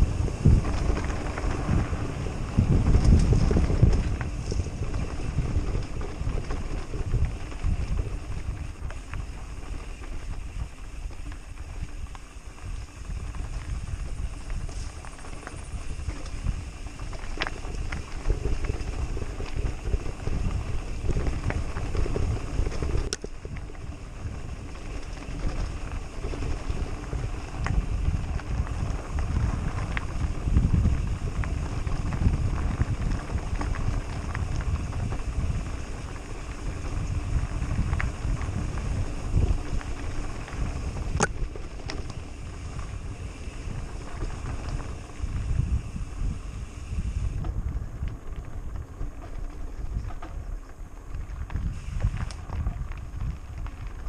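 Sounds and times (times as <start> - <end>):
bike tyres rolling on gravel: 0.0 - 54.0
wind buffeting microphone: 0.0 - 54.0.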